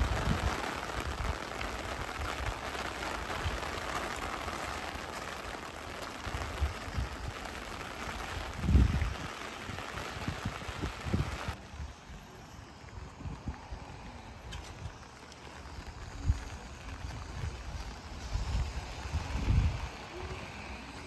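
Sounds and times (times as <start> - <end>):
steady rain pattering: 0.0 - 21.0.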